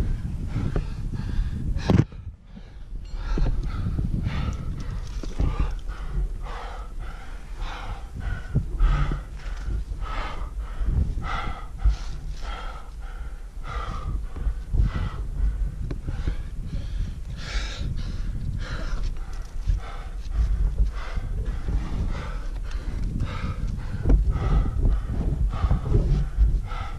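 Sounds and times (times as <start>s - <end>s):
low rumble: 0.0s - 26.9s
man panting heavily: 0.0s - 26.9s.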